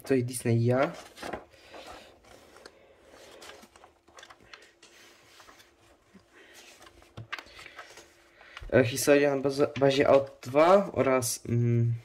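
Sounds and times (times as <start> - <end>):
magazine pages rustling: 0.6 - 11.4.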